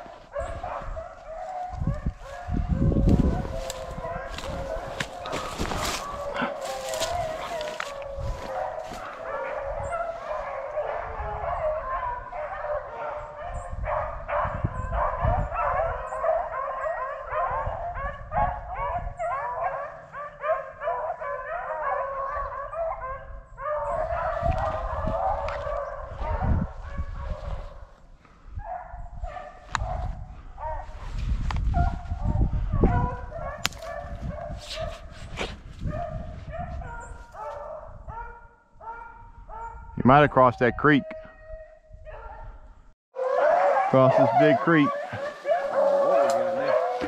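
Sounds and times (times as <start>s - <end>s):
hounds baying: 0.0s - 27.9s, 28.6s - 31.1s, 31.8s - 35.0s, 35.9s - 40.0s, 43.2s - 47.0s.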